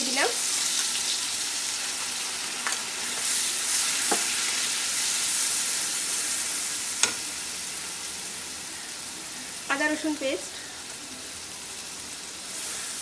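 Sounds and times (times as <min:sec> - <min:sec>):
onion paste sizzling in oil: 0:00.0 - 0:13.0.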